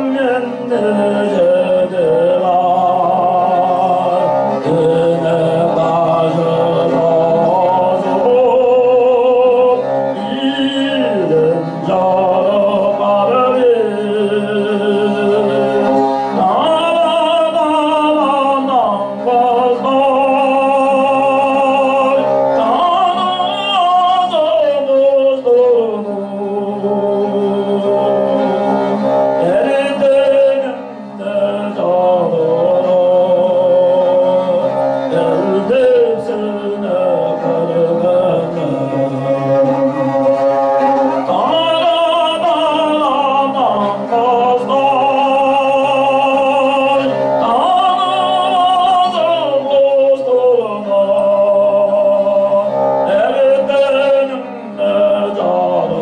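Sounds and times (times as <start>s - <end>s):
bowed fiddle: 0.0s - 56.0s
throat singing drone: 0.0s - 56.0s.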